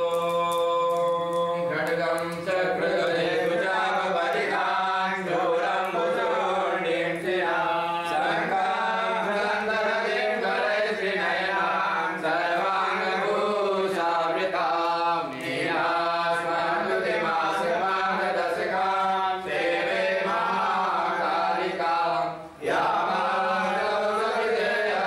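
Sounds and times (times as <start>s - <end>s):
men chanting: 0.0s - 25.0s.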